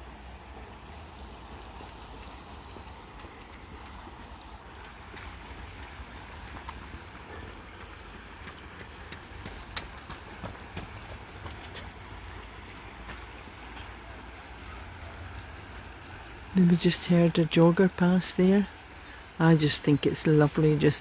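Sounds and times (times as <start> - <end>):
jogger footsteps: 0.0 - 17.2.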